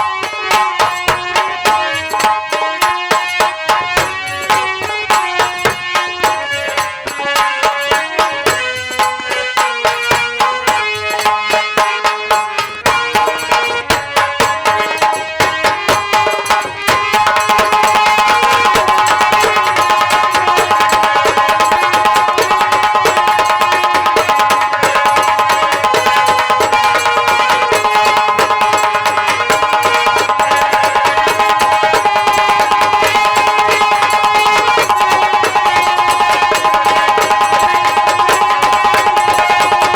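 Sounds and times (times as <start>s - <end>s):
folk melody instrument: 0.0s - 39.9s
hand drumming: 0.0s - 39.9s.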